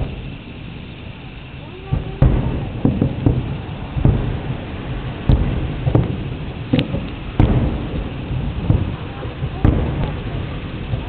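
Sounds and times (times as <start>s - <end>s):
fireworks bursting with rumbling: 0.0s - 11.0s.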